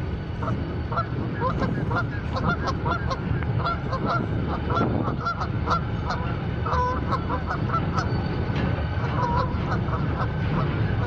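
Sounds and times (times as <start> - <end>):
steady low rumble: 0.0 - 11.0
geese honking: 0.4 - 8.1, 9.0 - 10.7.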